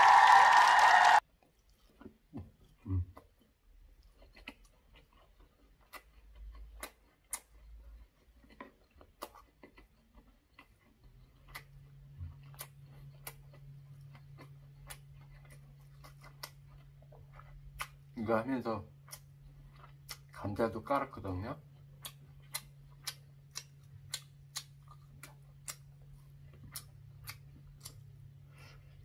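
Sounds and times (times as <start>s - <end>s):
low steady hum: 0.0s - 29.0s
wet chewing mouth clicks: 1.4s - 28.8s.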